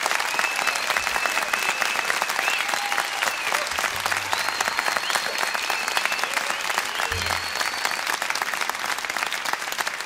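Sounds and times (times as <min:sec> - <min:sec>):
whistles and cheers: 0:00.0 - 0:09.6
audience clapping: 0:00.0 - 0:10.0.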